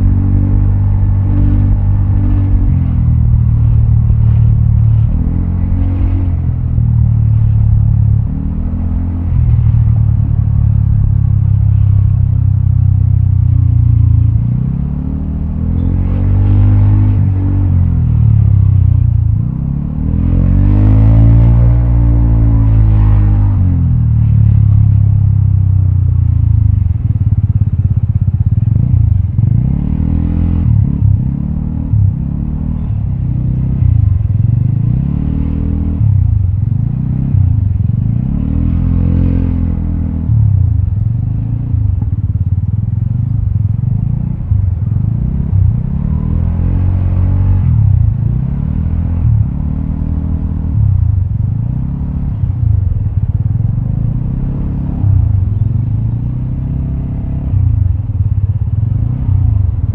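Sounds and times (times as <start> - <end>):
scooter engine riding along: 0.0 - 59.9.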